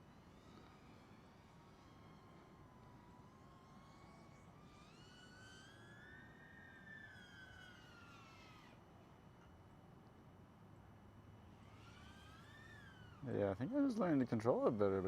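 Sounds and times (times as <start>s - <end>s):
distant drone motors whining: 0.0s - 9.4s, 11.2s - 15.0s.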